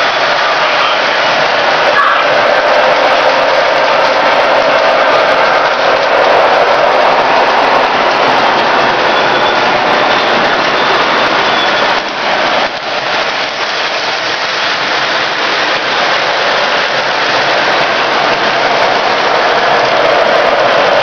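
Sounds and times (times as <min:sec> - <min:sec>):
model trains whirring and rattling: 0:00.0 - 0:21.0.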